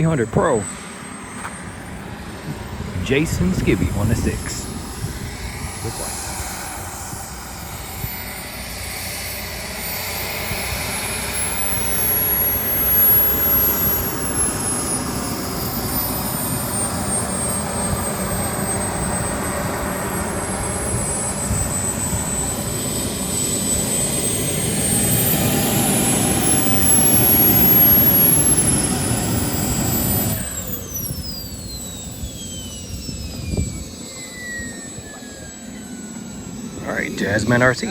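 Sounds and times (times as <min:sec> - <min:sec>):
jet turbine roar with whine: 0:00.0 - 0:37.9.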